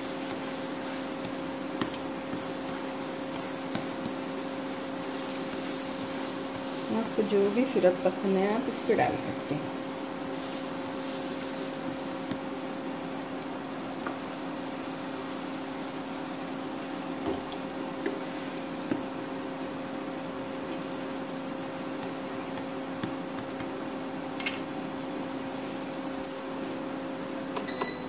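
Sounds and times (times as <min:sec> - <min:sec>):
pancake frying in a pan: 0:00.0 - 0:09.0, 0:09.6 - 0:28.0
steady hum: 0:00.0 - 0:27.4.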